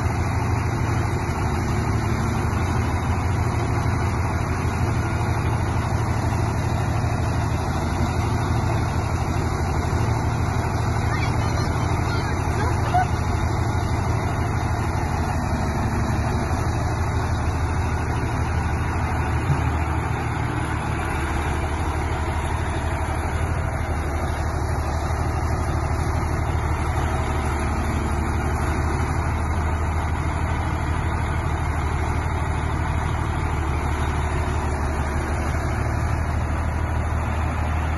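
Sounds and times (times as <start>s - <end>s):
tractor diesel engine at low revs: 0.0s - 37.9s.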